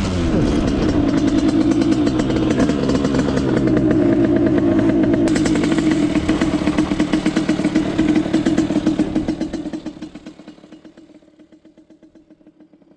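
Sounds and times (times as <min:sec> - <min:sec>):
two-stroke dirt bike idling: 0:00.0 - 0:12.9.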